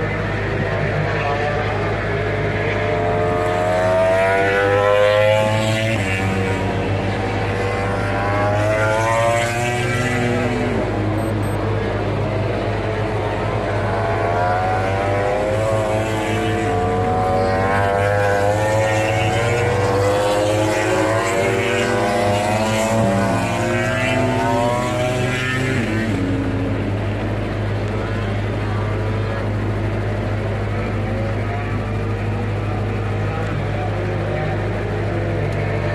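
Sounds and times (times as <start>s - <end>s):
race motorcycle engines revving: 0.0s - 35.9s.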